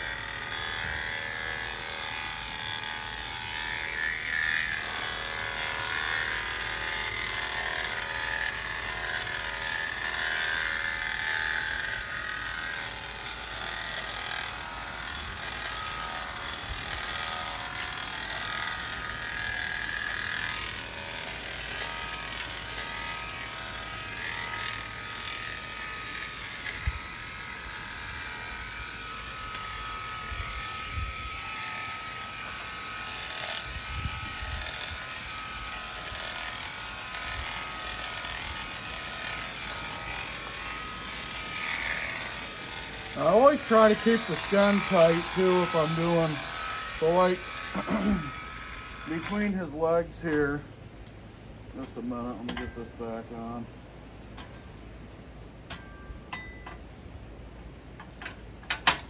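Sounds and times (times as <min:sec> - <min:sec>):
electric clippers humming: 0:00.0 - 0:50.8.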